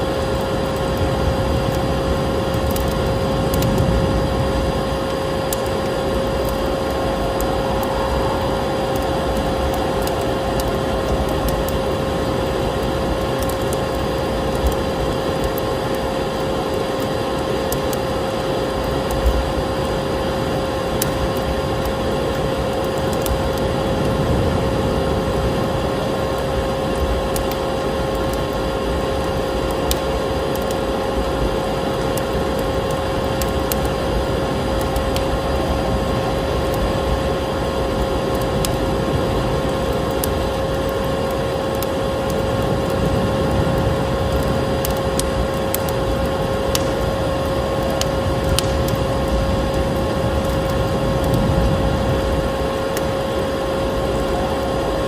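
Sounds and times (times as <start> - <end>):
fireplace crackling and popping: 0.0 - 55.0
vacuum cleaner running: 0.0 - 55.0.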